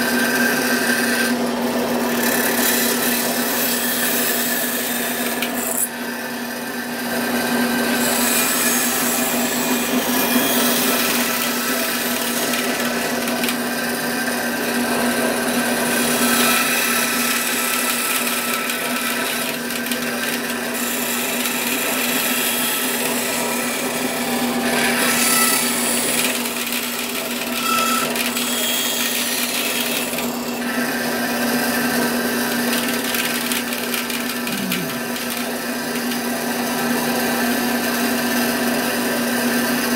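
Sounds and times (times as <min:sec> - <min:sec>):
bandsaw motor hum: 0:00.0 - 0:39.9.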